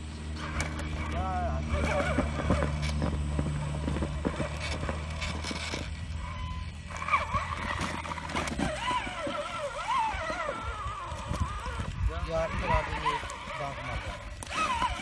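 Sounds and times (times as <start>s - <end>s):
toy car motor whine: 0.0s - 15.0s.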